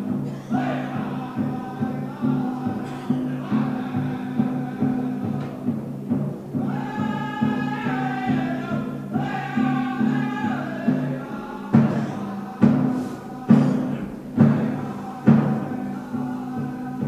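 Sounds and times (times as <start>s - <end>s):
group singing in unison: 0.0s - 17.0s
large drum strikes: 0.0s - 17.0s.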